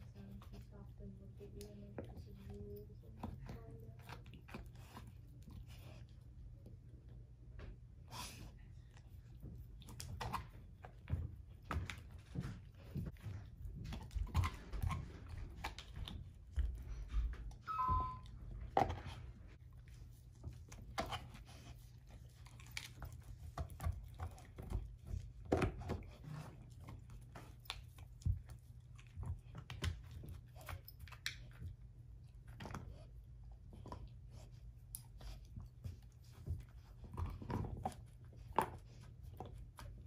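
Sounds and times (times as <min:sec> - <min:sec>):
dog chewing bone crunches: 0:01.4 - 0:06.4, 0:09.0 - 0:17.6, 0:18.7 - 0:40.0.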